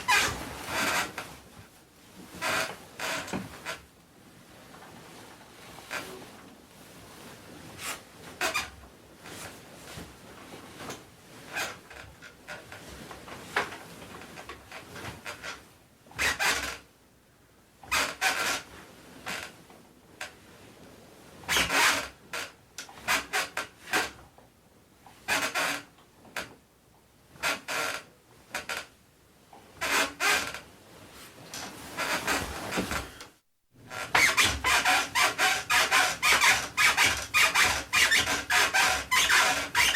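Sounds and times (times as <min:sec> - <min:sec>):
spring mattress creaking: 0:00.0 - 0:01.5, 0:02.2 - 0:03.9, 0:04.8 - 0:06.5, 0:07.2 - 0:16.9, 0:17.8 - 0:19.6, 0:21.5 - 0:24.2, 0:25.2 - 0:26.6, 0:27.4 - 0:29.0, 0:29.7 - 0:39.9.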